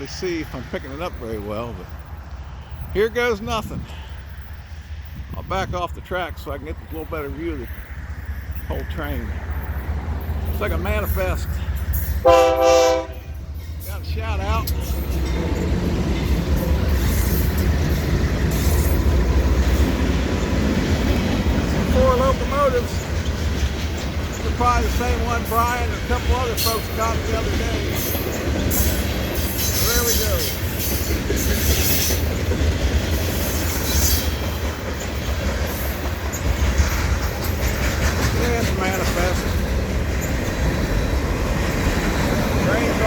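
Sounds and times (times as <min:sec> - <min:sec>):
diesel locomotives rumbling past: 0:00.0 - 0:43.0
rail and wheel noise: 0:00.0 - 0:43.0.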